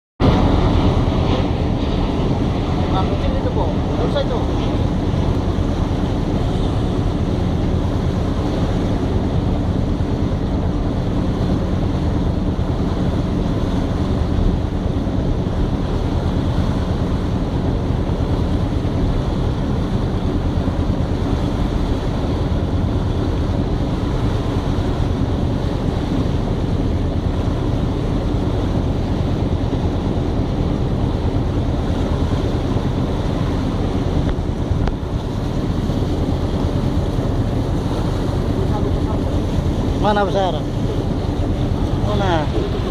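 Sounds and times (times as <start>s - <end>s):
ship engine low rumble: 0.2s - 42.9s
wind on microphone: 0.2s - 42.9s.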